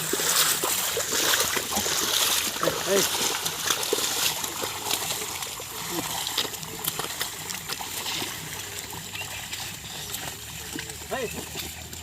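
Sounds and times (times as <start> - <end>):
water and mud splashing: 0.0 - 12.0.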